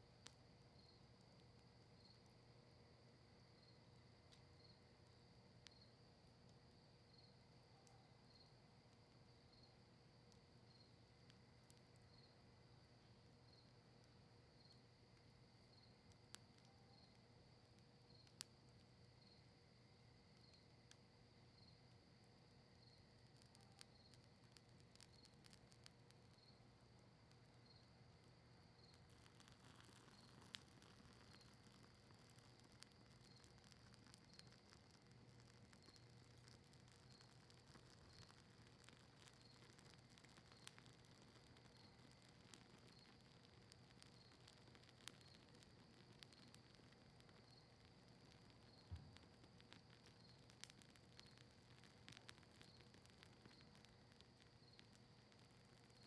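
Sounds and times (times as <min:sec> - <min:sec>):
campfire crackling: 0:00.0 - 0:56.0
cricket chirping: 0:00.3 - 0:02.4, 0:03.3 - 0:06.0, 0:06.7 - 0:56.0
sharp pops of fire: 0:03.6 - 0:56.0.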